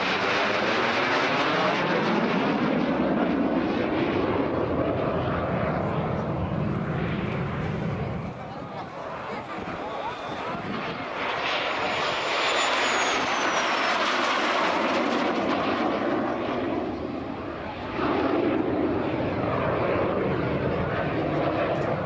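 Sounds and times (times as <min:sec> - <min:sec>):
jet engine noise: 0:00.0 - 0:22.0.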